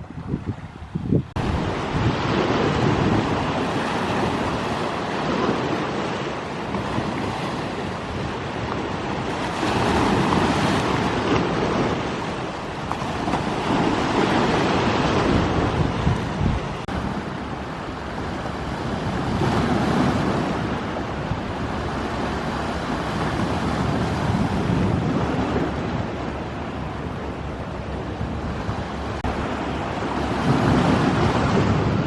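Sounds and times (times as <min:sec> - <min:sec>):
sea waves breaking ashore: 0:00.0 - 0:32.0.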